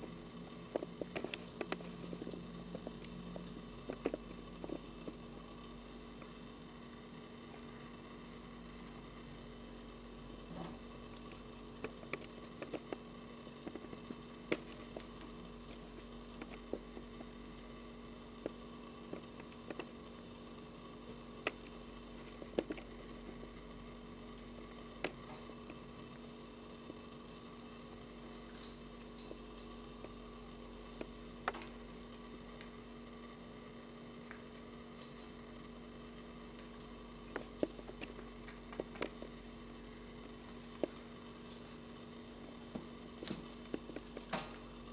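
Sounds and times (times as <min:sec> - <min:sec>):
steady electrical hum: 0:00.0 - 0:44.9.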